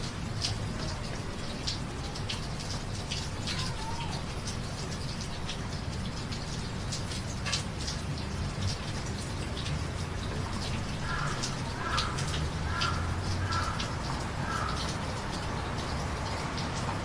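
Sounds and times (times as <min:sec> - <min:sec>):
raindrops tapping: 0:00.0 - 0:17.0
steady rain: 0:00.0 - 0:17.0.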